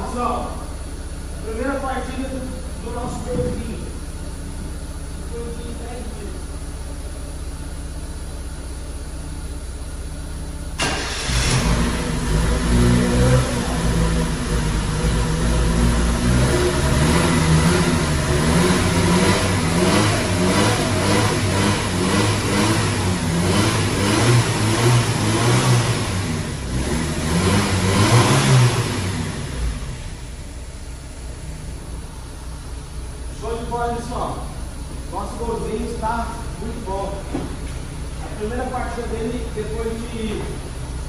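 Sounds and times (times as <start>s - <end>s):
car engine starting and revving: 0.0s - 41.0s.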